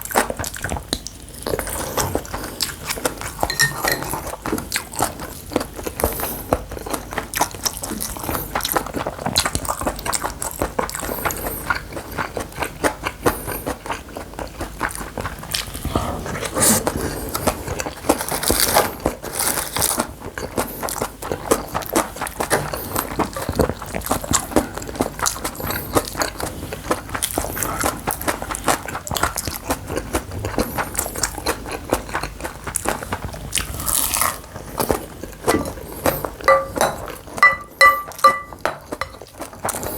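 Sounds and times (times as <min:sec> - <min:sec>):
close chewing with wet clicks: 0:00.0 - 0:16.0, 0:16.9 - 0:39.9.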